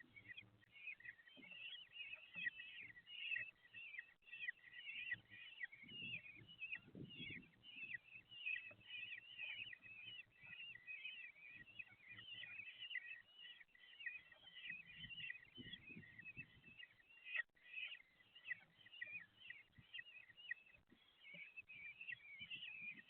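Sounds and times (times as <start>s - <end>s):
chicks begging with high chirps: 0.0s - 23.0s.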